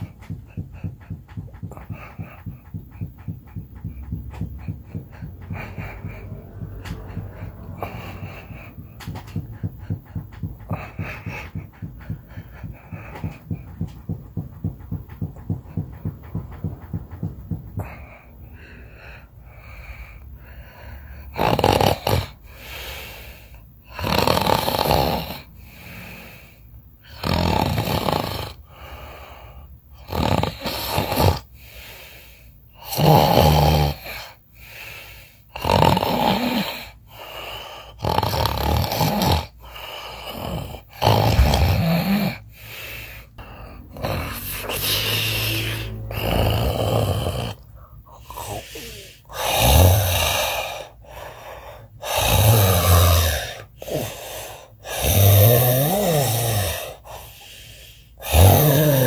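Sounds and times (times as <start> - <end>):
person snoring: 0.0 - 14.0, 20.8 - 59.0.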